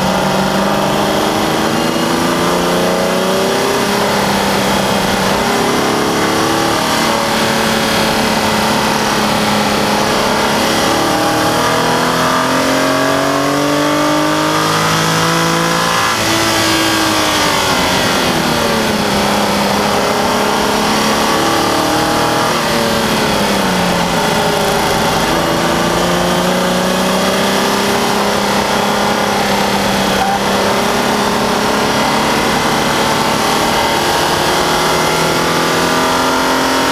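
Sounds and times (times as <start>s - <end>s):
car engine at full pace: 0.0s - 36.9s.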